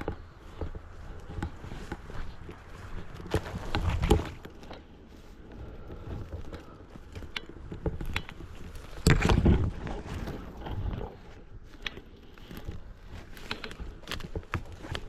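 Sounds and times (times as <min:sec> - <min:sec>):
footsteps in dry leaves: 0:00.0 - 0:15.0
twigs snapping: 0:00.0 - 0:15.0.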